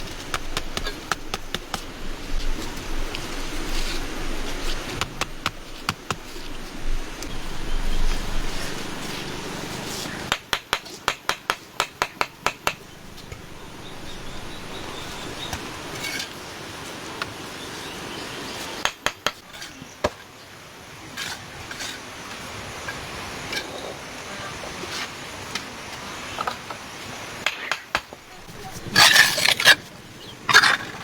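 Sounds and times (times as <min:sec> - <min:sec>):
steady background hiss: 0:00.0 - 0:31.0.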